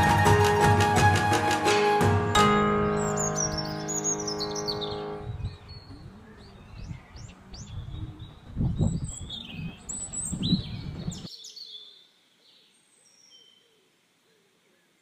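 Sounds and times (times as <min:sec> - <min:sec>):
small birds chirping: 0:02.9 - 0:15.0.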